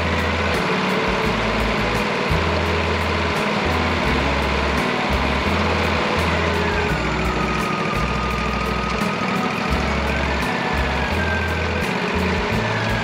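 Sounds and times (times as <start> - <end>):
sawmill engine whining: 0.0 - 13.0.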